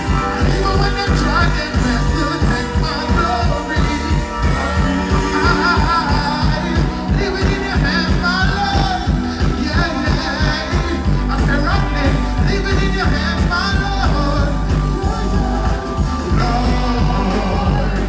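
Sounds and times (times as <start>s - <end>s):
heavy bass: 0.0s - 18.0s
vocalist singing: 0.0s - 18.0s.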